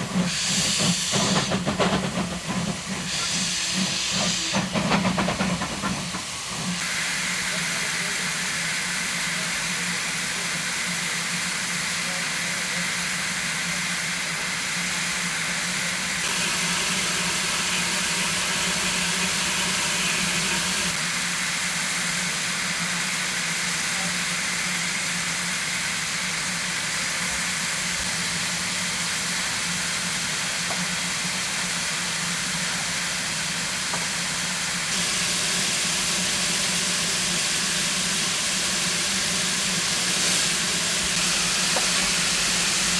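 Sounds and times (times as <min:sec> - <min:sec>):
steam hissing: 0:00.0 - 0:42.9.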